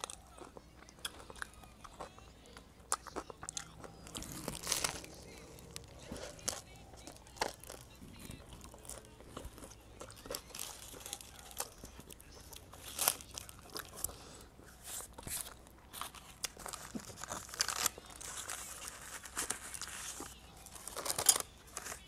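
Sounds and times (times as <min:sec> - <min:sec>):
food wrapping crinkling and tearing: 0:02.9 - 0:22.0.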